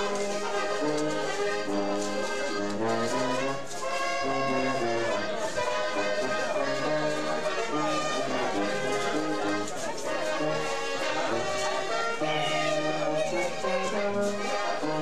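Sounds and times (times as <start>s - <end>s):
brass band playing dance tune: 0.0s - 15.0s.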